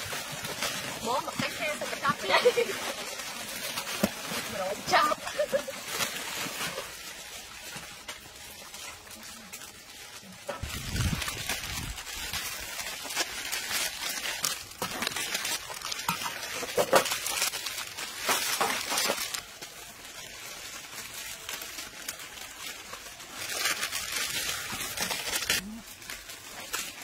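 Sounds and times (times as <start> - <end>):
plastic packets crinkling and tearing: 0.0 - 27.0.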